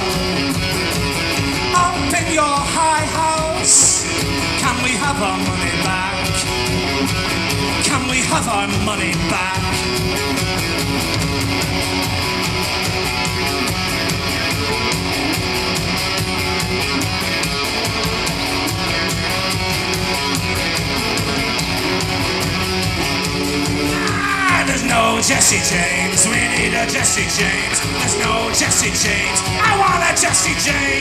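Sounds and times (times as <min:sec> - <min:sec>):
live rock band playing: 0:00.0 - 0:31.0
strummed guitar: 0:00.0 - 0:31.0.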